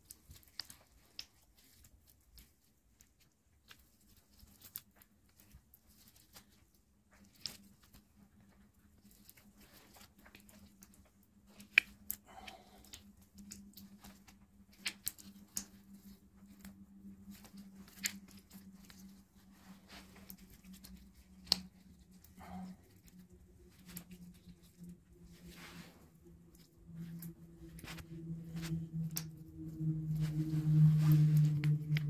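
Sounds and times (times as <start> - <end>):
low steady hum: 0.0 - 32.0
soft rustles of handling: 0.0 - 32.0.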